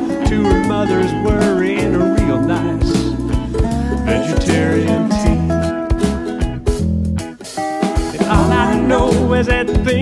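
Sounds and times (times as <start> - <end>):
bass: 0.0 - 10.0
drums steady beat: 0.0 - 10.0
steel guitar sliding lead: 0.4 - 10.0.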